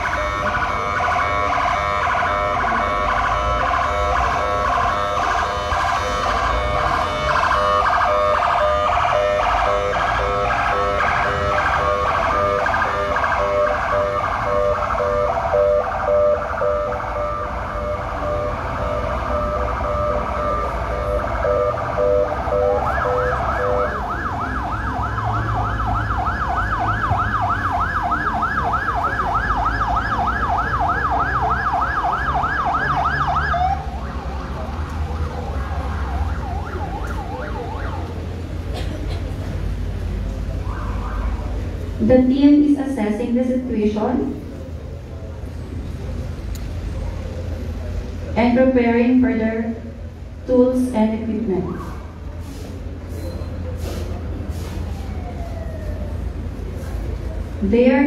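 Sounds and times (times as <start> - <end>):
emergency sirens: 0.0 - 58.0.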